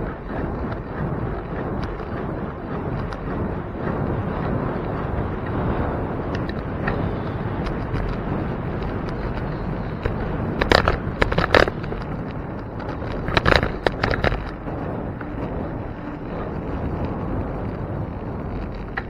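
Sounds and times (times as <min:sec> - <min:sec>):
wind and tyre noise: 0:00.0 - 0:19.0.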